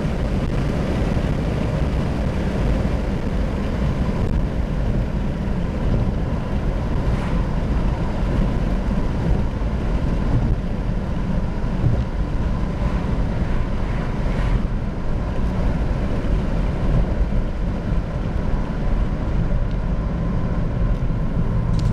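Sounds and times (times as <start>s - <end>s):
diesel engine drone in cabin: 0.0s - 21.9s
road and wind noise: 0.0s - 21.9s.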